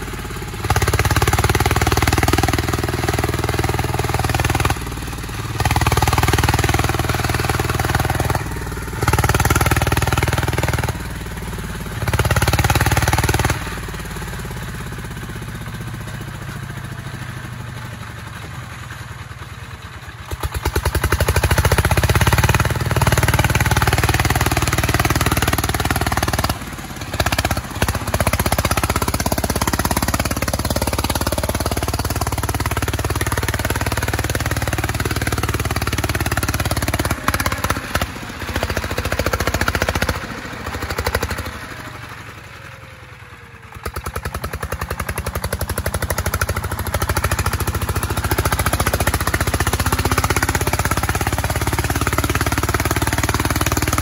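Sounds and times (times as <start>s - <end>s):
diesel tractor engine revving: 0.0s - 54.0s.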